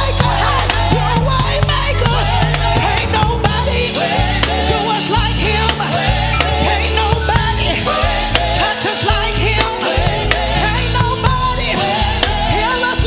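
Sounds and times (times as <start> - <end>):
bass line: 0.0 - 13.0
drums: 0.0 - 13.0.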